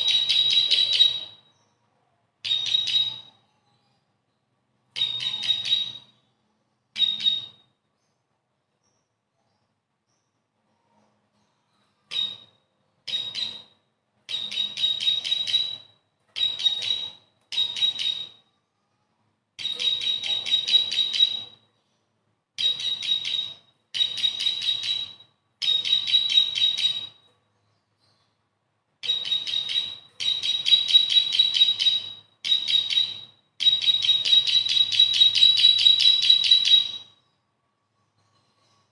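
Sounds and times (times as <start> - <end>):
bird chirping and trilling: 0.0 - 4.2, 4.9 - 8.2, 11.4 - 18.4, 19.6 - 28.4, 29.0 - 37.4.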